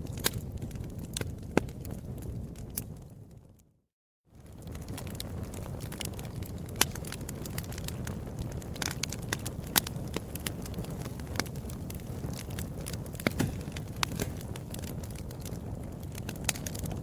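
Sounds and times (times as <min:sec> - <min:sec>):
fire crackling in fireplace: 0:00.0 - 0:17.0.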